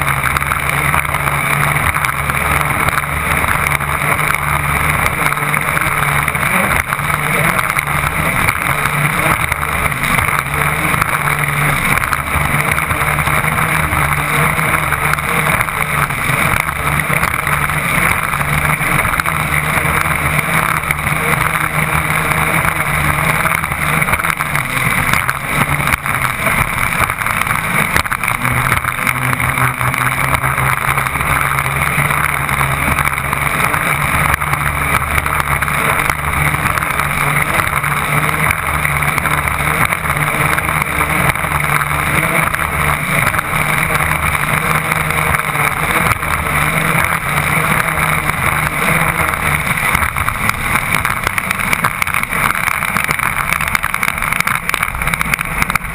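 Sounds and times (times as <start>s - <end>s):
boat diesel engines running: 0.0s - 55.9s
rushing water: 0.0s - 55.9s
wind: 0.0s - 55.9s.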